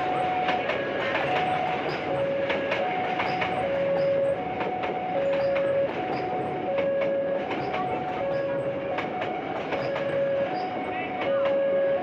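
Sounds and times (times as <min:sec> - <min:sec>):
level-crossing alarm two-tone: 0:00.0 - 0:12.0
passenger train rumbling past: 0:00.0 - 0:12.0
wheel clicks over rail joints: 0:00.2 - 0:11.6.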